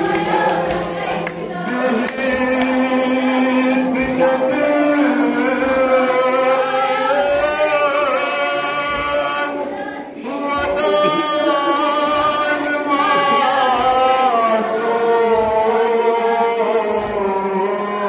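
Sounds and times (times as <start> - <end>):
man singing lament unaccompanied: 0.8 - 18.0.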